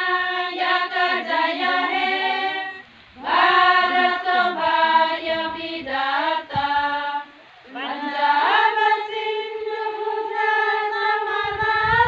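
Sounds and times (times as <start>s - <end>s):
women singing in unison: 0.0s - 12.0s.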